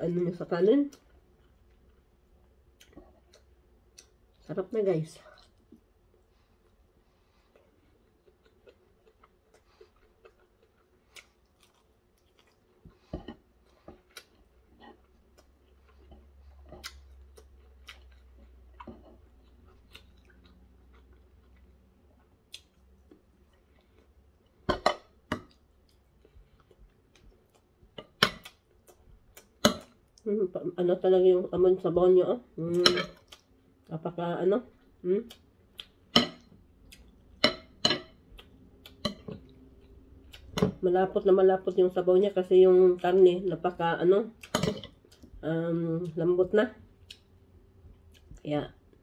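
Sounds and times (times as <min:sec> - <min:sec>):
person chewing and eating: 0:00.9 - 0:04.5, 0:05.3 - 0:30.3, 0:32.6 - 0:33.9, 0:34.7 - 0:40.8, 0:44.3 - 0:46.2, 0:46.8 - 0:49.0.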